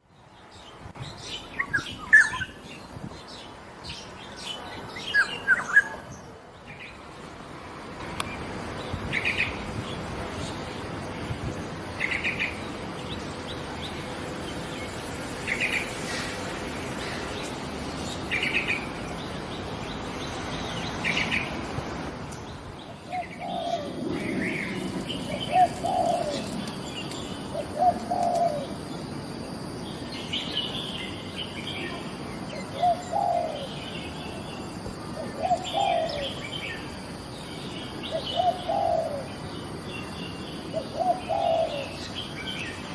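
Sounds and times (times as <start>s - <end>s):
birds chirping: 8.1s - 42.9s.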